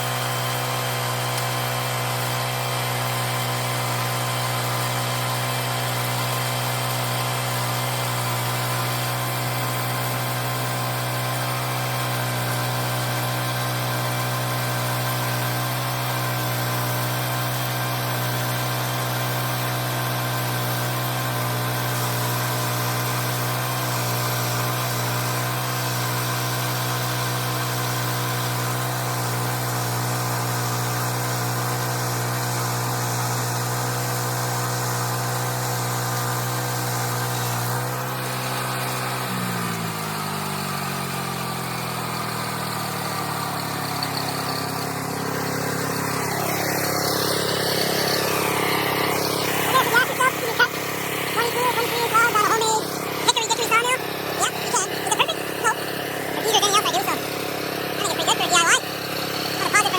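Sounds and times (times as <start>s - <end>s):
sawmill motor humming: 0.0s - 59.9s.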